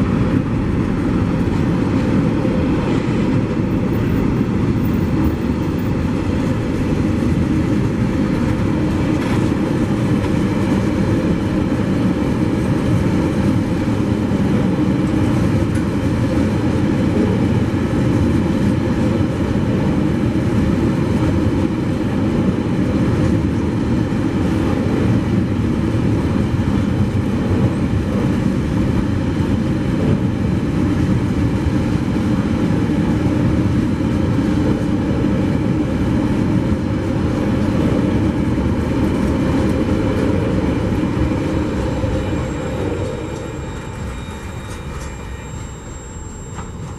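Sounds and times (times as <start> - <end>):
freight train rolling past: 0.0 - 46.9.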